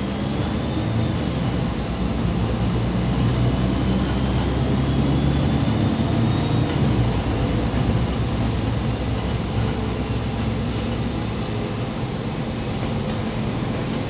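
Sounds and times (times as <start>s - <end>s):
bus diesel engine rumble: 0.0s - 14.0s
road noise: 0.0s - 14.0s.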